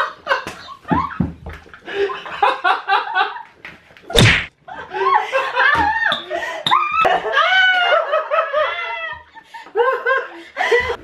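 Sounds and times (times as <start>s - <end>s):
laughter: 0.0s - 3.6s, 4.6s - 11.0s.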